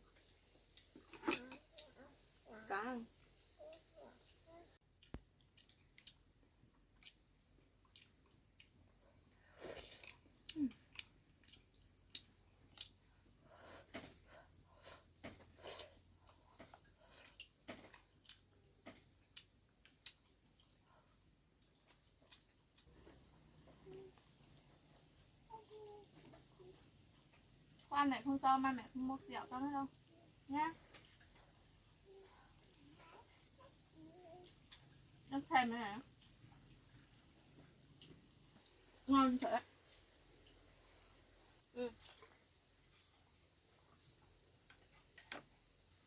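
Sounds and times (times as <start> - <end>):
crickets chirring: 0.0 - 46.0.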